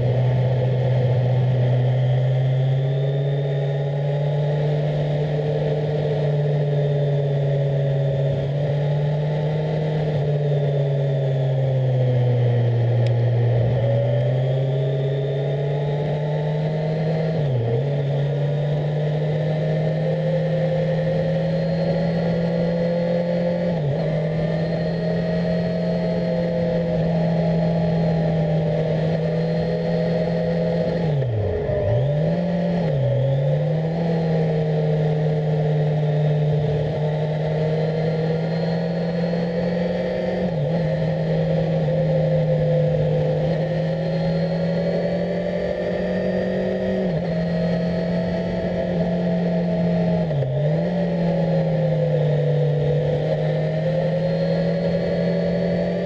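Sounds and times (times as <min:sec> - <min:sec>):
motorcycle engine at mid revs: 0:00.0 - 0:56.0.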